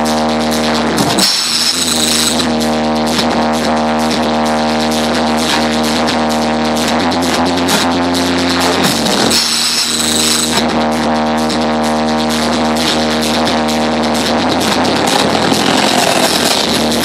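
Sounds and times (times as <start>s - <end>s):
electronic music with fast beat: 0.0s - 17.0s.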